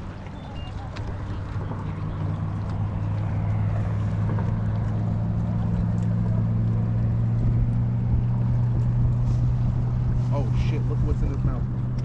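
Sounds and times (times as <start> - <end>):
boat motor humming: 0.0 - 12.0
wind rumbling on microphone: 0.0 - 12.0.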